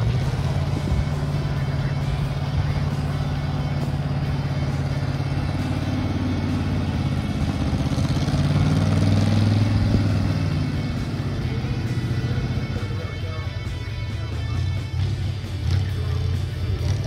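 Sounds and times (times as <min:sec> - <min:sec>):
truck engine labouring: 0:00.0 - 0:17.0.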